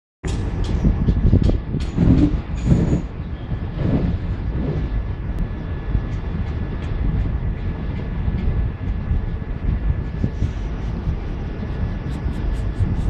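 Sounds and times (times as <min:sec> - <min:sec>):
train coaches rumbling on track: 0:00.2 - 0:13.0.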